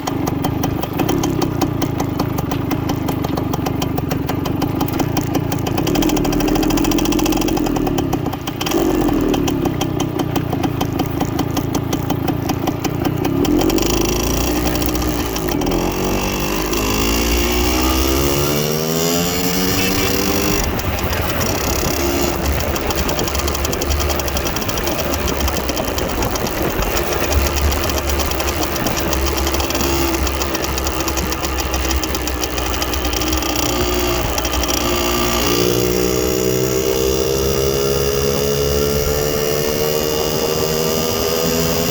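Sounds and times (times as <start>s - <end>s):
two-stroke motorcycle engine running: 0.0s - 41.9s.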